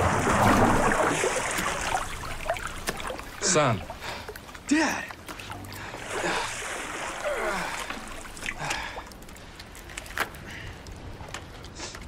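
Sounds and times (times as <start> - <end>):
pool water splashing: 0.0 - 10.2
water dripping: 0.0 - 12.0.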